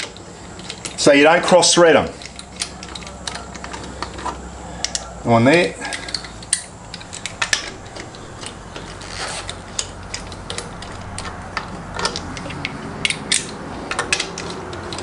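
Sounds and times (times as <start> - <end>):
wheel nuts clicking on studs: 0.0 - 5.1, 5.8 - 15.0.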